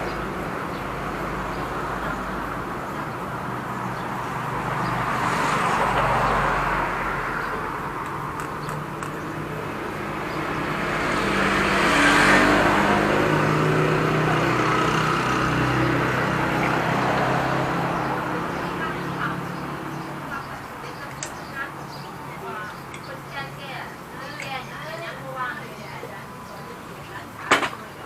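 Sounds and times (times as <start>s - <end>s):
vehicles passing on road: 0.0s - 28.0s.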